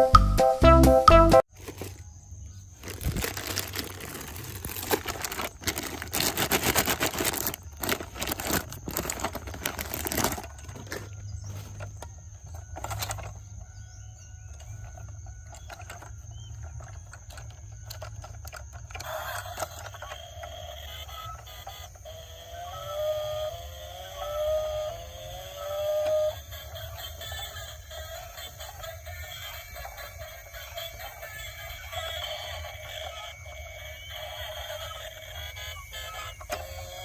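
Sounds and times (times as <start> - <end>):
faint steady hum: 1.5 - 37.0
toy cars rattling and clicking: 2.8 - 13.8, 14.4 - 37.0.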